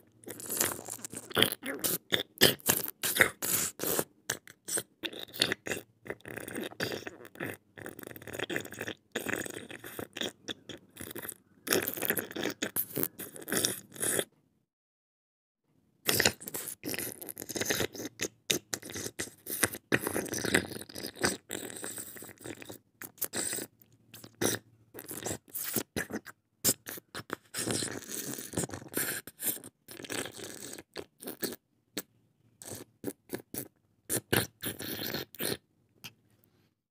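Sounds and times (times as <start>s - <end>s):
crackly chewing: 0.1s - 14.3s, 16.1s - 36.2s.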